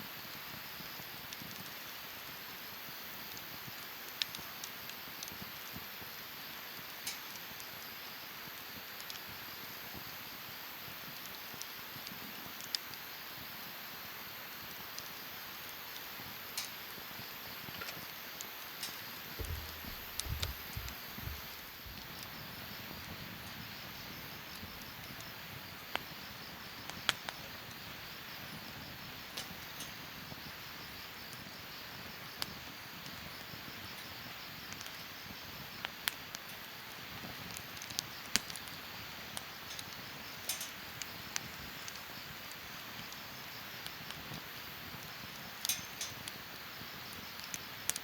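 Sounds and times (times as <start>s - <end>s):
sharp pops and snaps of fire: 0.0s - 48.0s
wood fire crackling: 0.0s - 48.0s.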